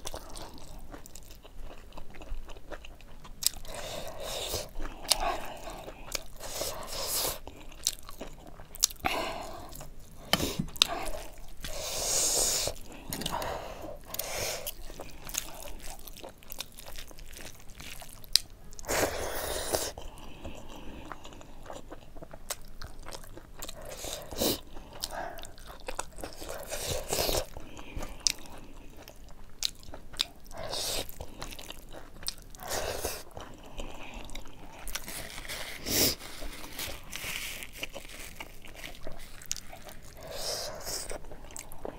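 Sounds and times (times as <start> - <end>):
chewing food: 0.0 - 41.9.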